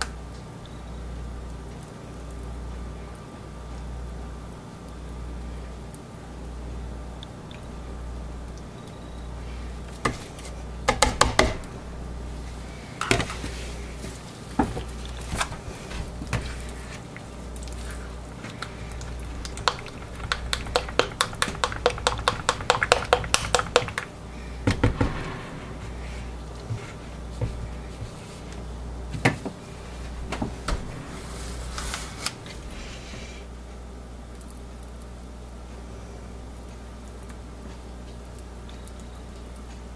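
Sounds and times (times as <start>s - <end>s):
low hum: 0.6s - 10.9s, 11.5s - 36.6s.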